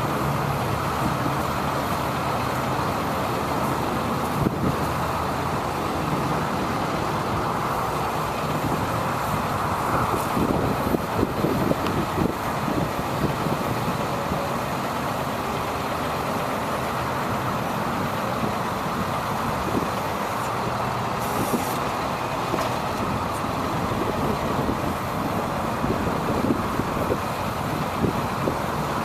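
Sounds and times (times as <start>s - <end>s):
truck engine rumble: 0.0s - 29.0s.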